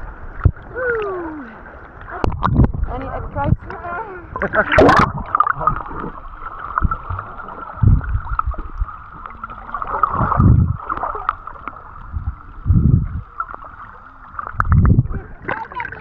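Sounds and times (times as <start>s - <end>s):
small waves sloshing at shore: 1.1s - 16.0s.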